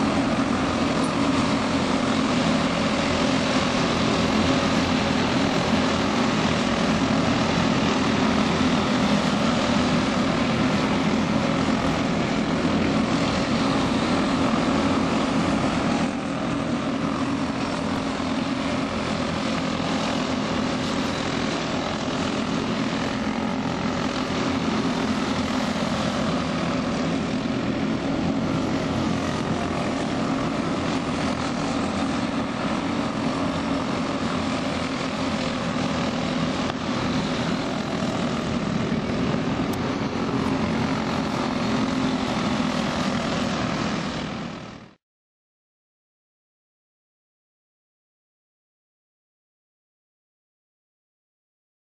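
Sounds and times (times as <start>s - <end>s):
kart engines droning: 0.0s - 45.0s.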